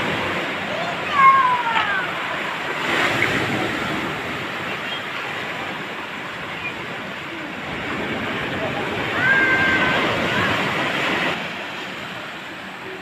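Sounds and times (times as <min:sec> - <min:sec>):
waves breaking on pebble beach: 0:00.0 - 0:13.0.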